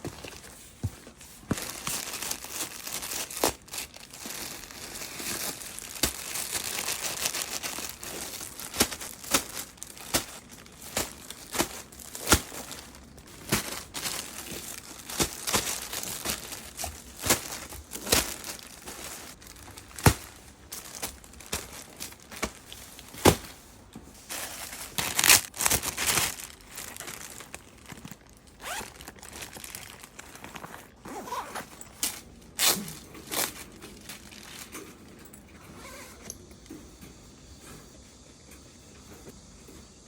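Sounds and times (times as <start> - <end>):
packaging crinkling and rustling: 0.0 - 35.1.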